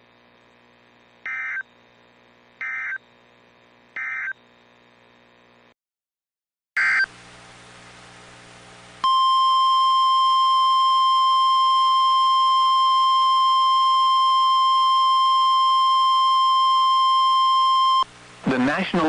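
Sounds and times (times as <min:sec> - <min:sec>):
faint hum: 0:00.0 - 0:05.7, 0:06.8 - 0:19.0.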